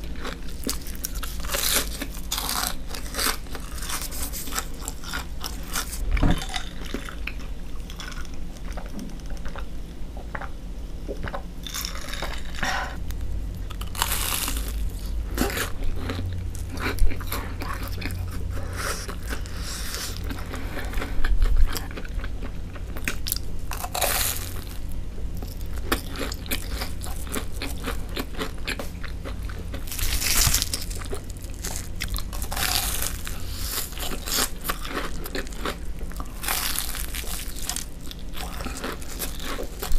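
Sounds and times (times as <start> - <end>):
crunching and chewing fried food: 0.0 - 39.9.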